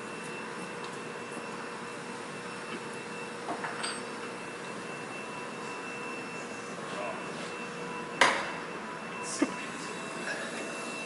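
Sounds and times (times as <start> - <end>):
workshop machine hum: 0.0 - 11.0.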